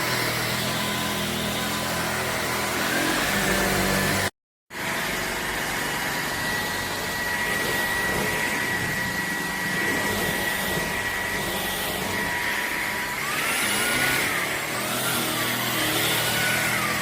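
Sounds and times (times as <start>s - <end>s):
stick vacuum running: 0.0s - 17.0s.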